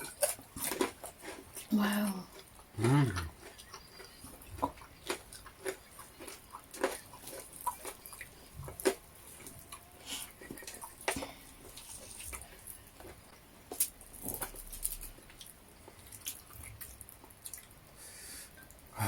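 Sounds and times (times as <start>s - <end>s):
chewing smacks and clicks: 2.3s - 17.8s.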